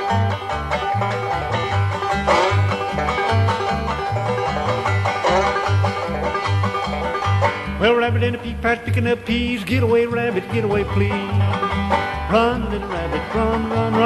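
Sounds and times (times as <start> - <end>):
banjo picking: 0.0 - 14.0
guitar picking: 0.0 - 14.0
steady bass beat: 0.0 - 14.0.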